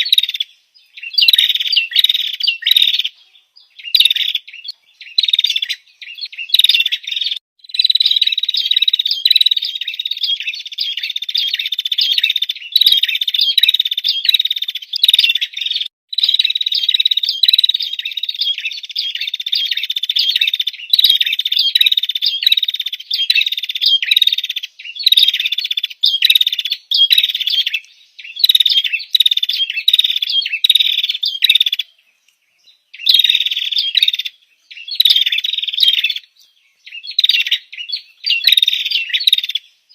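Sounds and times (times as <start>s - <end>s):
bird high rapid chirps: 0.0s - 39.9s.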